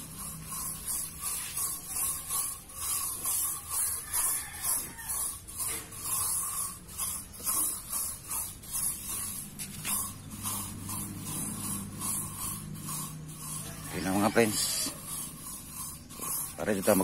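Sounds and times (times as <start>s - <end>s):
brush scrubbing: 0.0s - 17.0s.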